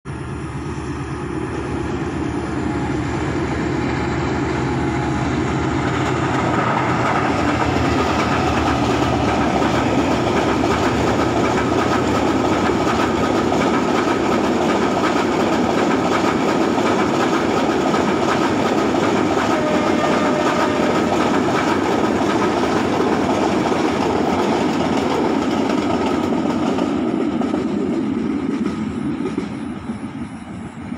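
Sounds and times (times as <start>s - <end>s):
train wheels clattering on rails: 1.5s - 30.9s.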